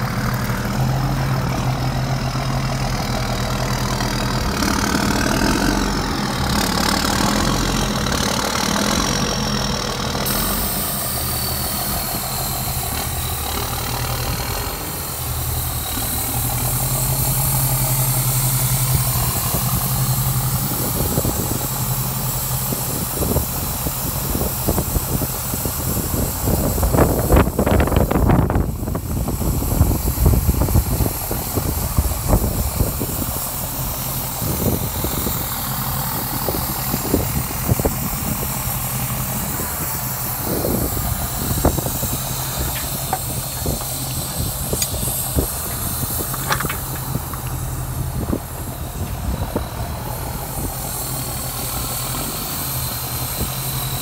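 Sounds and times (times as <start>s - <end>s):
rushing noise: 0.0s - 54.0s
truck engine idling: 0.0s - 54.0s.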